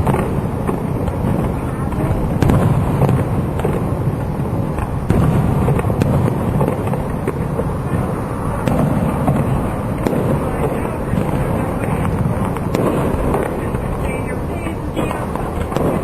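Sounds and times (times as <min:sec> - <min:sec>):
fireworks rumbling bursts: 0:00.0 - 0:16.0
sharp firework cracks: 0:00.0 - 0:16.0.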